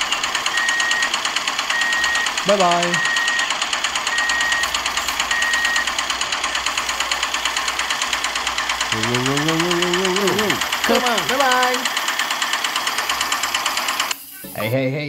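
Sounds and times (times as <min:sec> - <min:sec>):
small model tractor motor running: 0:00.0 - 0:14.8.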